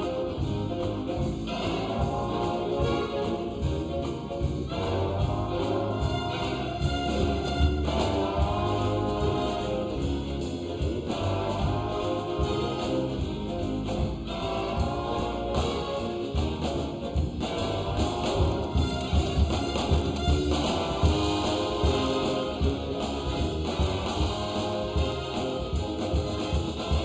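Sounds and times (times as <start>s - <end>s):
big band jazz: 0.0s - 27.0s.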